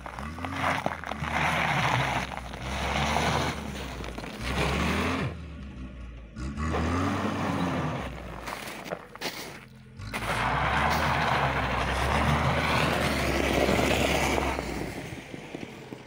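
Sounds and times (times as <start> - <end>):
car engine revving: 0.0 - 16.0
tyres spinning in snow: 0.0 - 16.0.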